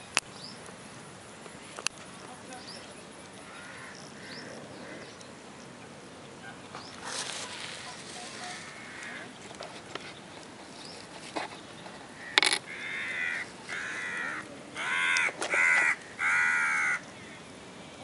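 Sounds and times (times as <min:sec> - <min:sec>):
bird calling: 0:01.5 - 0:17.6.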